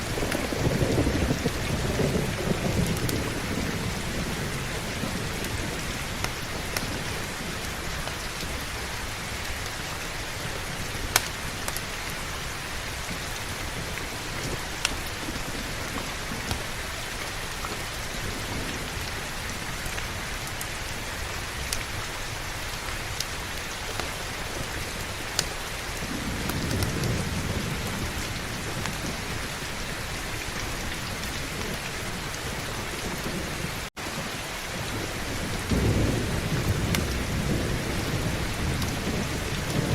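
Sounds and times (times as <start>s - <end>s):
thunder rumbling: 0.0s - 9.6s, 10.4s - 39.9s
heavy rain falling: 0.0s - 39.9s.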